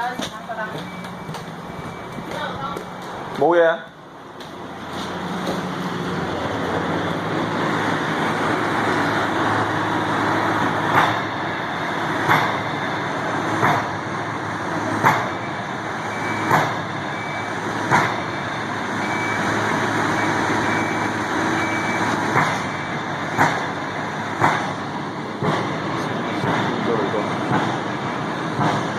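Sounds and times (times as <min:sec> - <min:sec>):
heavy traffic or large engine: 0:00.0 - 0:28.9.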